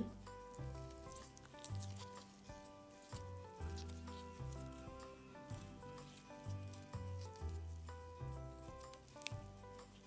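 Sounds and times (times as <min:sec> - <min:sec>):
calm background music: 0:00.0 - 0:10.0
sticky slime crackles: 0:00.1 - 0:10.0.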